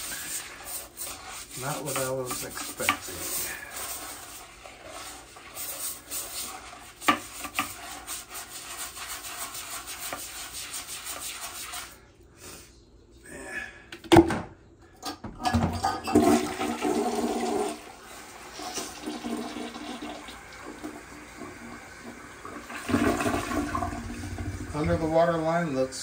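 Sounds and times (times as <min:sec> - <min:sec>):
toilet flushing: 0:00.0 - 0:12.0, 0:15.4 - 0:26.0
toilet brush scrubbing bowl: 0:00.0 - 0:12.1, 0:15.9 - 0:26.0.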